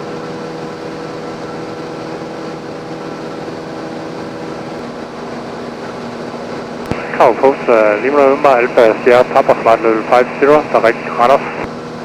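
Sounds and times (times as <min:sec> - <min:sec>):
airplane engine and propeller droning: 0:00.0 - 0:12.0.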